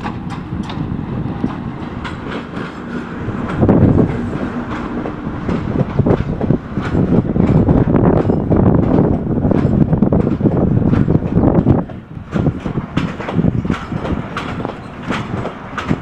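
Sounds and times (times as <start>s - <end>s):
train rumble: 0.0s - 16.0s
train wheels clacking on rail joints: 0.0s - 16.0s.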